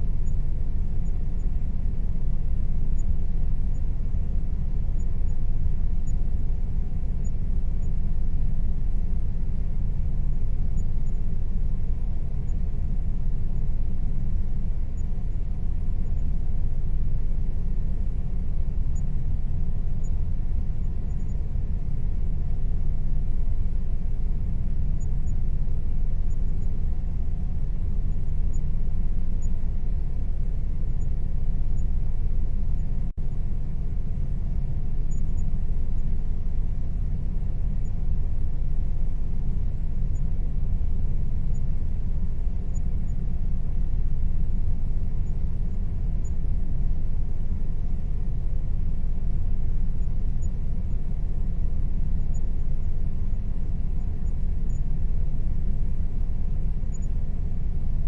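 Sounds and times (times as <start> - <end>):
air conditioner rumble: 0.0 - 58.0
faint hum tone: 0.0 - 58.0.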